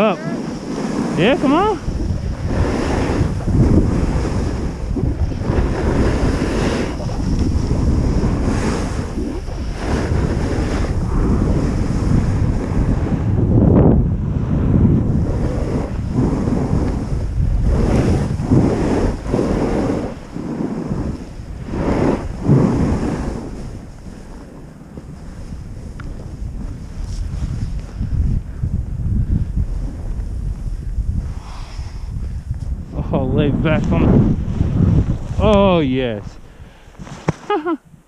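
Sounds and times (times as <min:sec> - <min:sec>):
skis scraping packed snow: 0:00.0 - 0:13.2, 0:14.4 - 0:37.7
wind buffeting microphone: 0:00.0 - 0:38.0.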